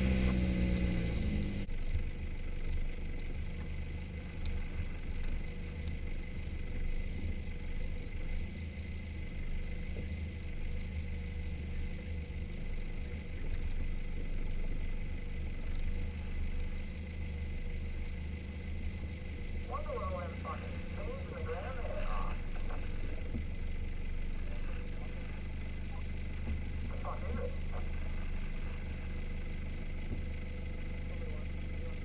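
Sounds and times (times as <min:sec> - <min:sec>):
vehicle engine at low revs: 0:00.0 - 0:32.0.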